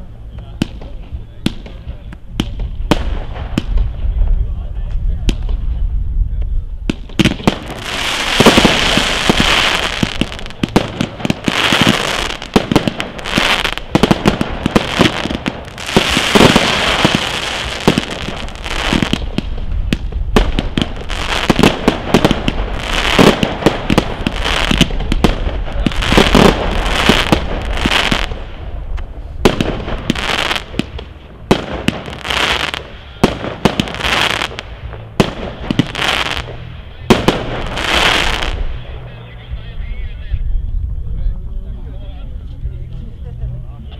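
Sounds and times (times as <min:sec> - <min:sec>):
fireworks bursting: 0:00.0 - 0:40.0
fireworks crackling: 0:00.0 - 0:41.0.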